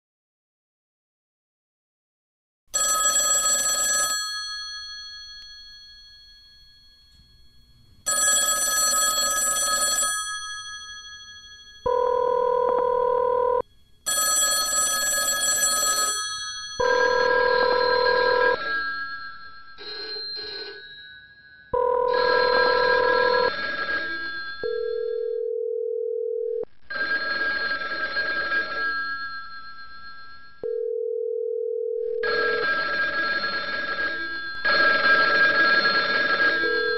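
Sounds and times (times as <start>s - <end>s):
electronic telephone ring tones: 2.8s - 6.7s, 8.1s - 23.6s, 24.4s - 36.9s
telephone bells ringing: 2.8s - 36.9s.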